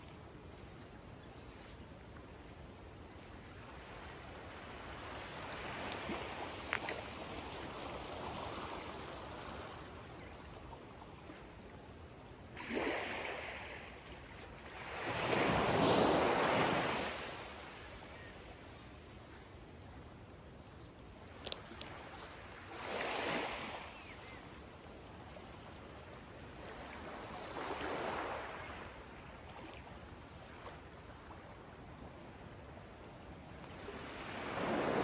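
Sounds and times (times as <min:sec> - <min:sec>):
small waves lapping on shore: 0:00.0 - 0:35.0.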